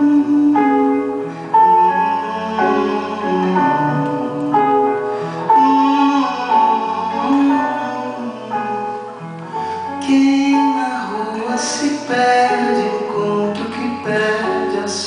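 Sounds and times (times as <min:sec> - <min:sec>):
live instrumental music: 0:00.0 - 0:15.0.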